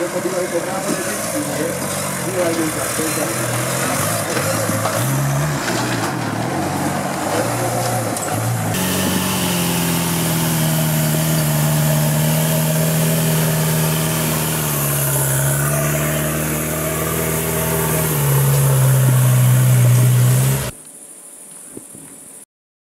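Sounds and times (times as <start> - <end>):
off-road vehicle engine under load: 0.0 - 20.8.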